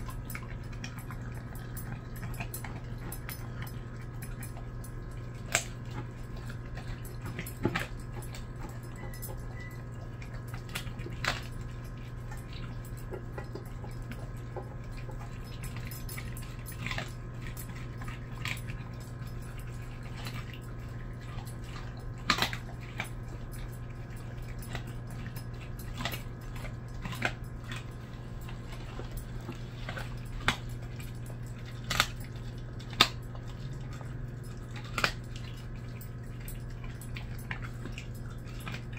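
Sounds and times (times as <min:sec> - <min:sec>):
dog chewing and crunching bone: 0:00.0 - 0:38.9
sharp cracks and clinks in bowl: 0:00.0 - 0:38.9
steady low hum: 0:00.0 - 0:38.9.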